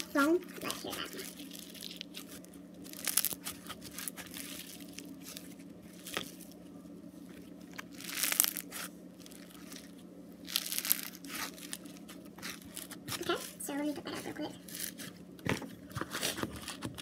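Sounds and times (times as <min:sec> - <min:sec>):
plastic container crinkling: 0:00.0 - 0:06.6, 0:07.3 - 0:17.0
faint steady hum: 0:00.0 - 0:17.0.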